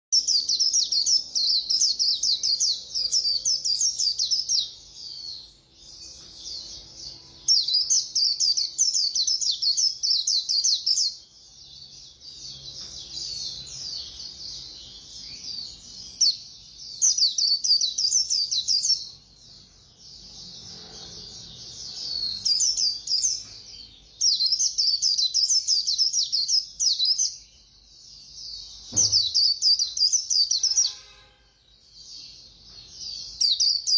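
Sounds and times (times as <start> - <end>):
bird twittering song: 0.1 - 33.9.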